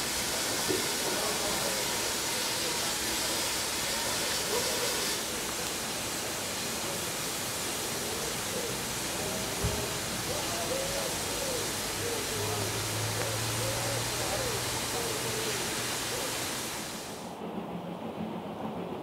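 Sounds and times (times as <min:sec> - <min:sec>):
faint voices: 0:00.0 - 0:17.2
steam hissing from locomotive: 0:00.0 - 0:19.0.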